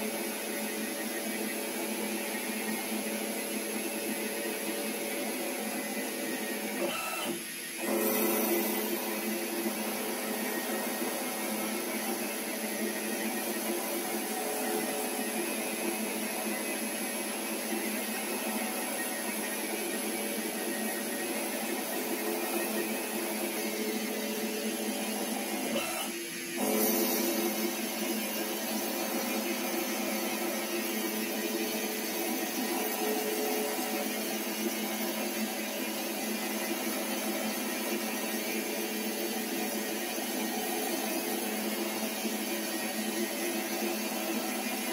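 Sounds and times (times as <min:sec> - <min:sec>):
lathe motor whine: 0:00.0 - 0:44.9.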